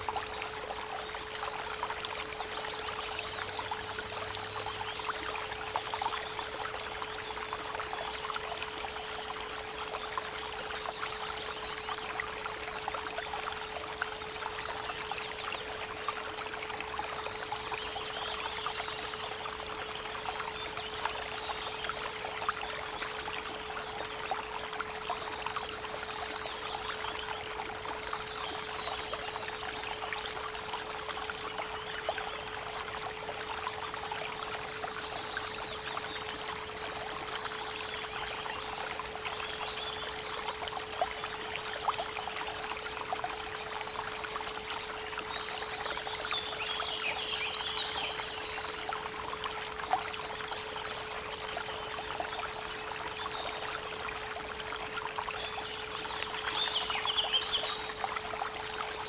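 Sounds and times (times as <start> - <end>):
birds singing: 0.0 - 53.8, 55.0 - 59.0
creek water trickling: 0.0 - 59.0.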